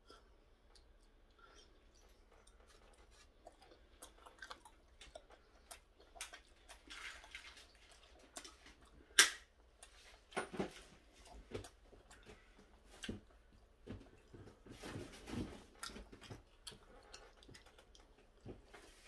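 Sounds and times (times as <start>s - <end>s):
person chewing: 0.1s - 10.3s, 10.9s - 19.0s.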